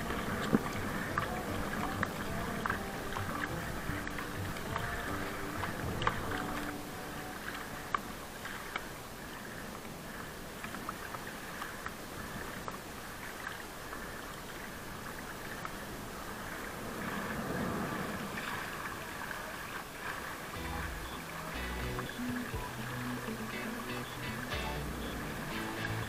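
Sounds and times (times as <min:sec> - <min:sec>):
water splashing along canoe hull: 0:00.0 - 0:26.0.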